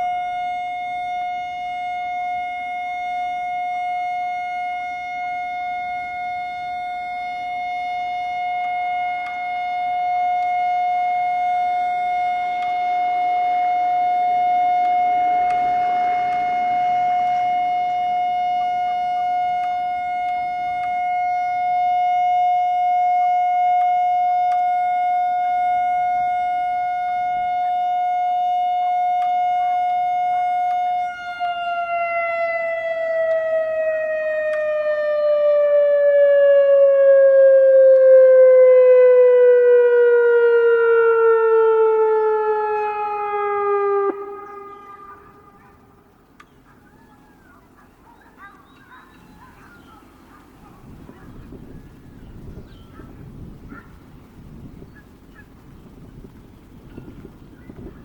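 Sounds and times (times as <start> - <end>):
tornado siren winding down: 0.0 - 58.0.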